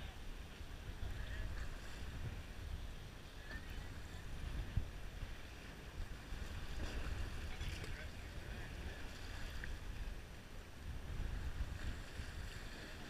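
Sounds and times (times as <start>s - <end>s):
choppy water against hull: 0.0s - 13.0s
wind on microphone: 0.0s - 13.0s.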